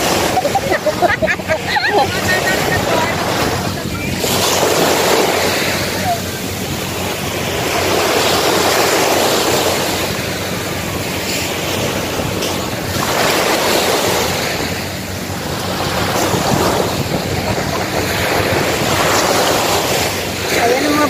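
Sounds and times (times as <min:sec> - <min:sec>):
sea waves breaking on sand: 0:00.0 - 0:21.0
wind on microphone: 0:00.0 - 0:21.0.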